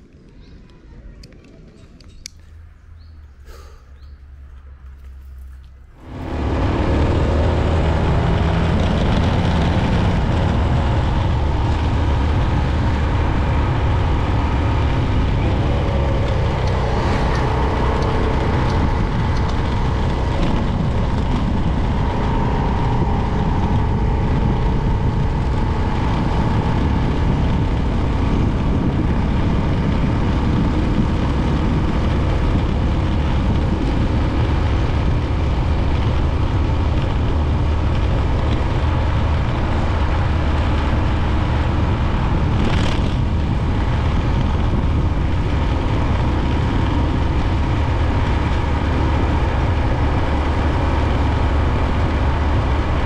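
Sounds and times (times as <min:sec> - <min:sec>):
vehicle engine and road rumble: 0:00.0 - 0:53.0.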